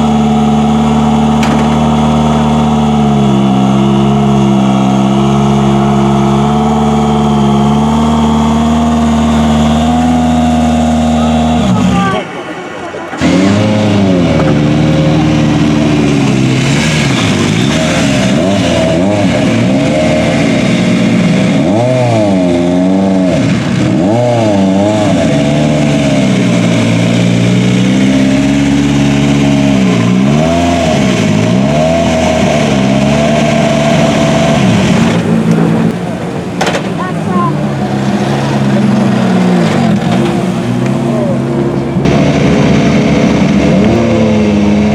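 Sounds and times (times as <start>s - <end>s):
rally car engine revving: 0.0s - 44.9s.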